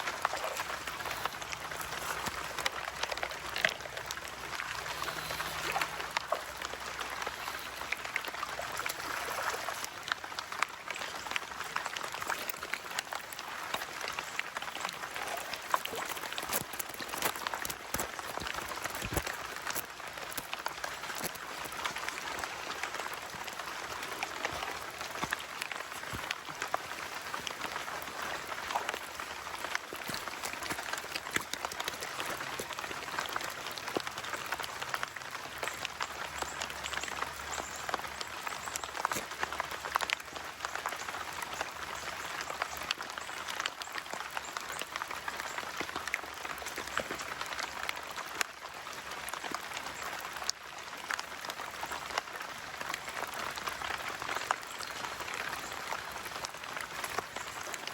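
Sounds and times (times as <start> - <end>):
rain pattering: 0.0 - 57.9.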